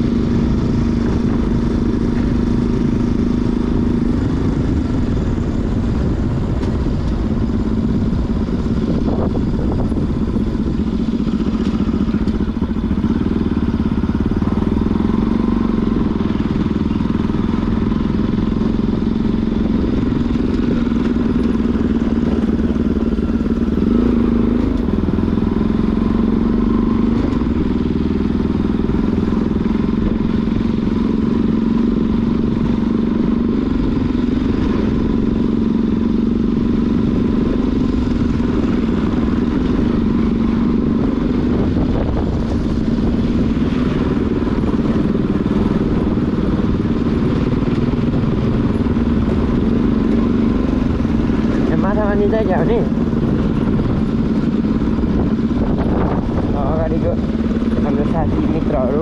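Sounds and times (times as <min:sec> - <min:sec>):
low rumble: 0:00.0 - 0:59.0
motorcycle engine running: 0:00.0 - 0:59.0.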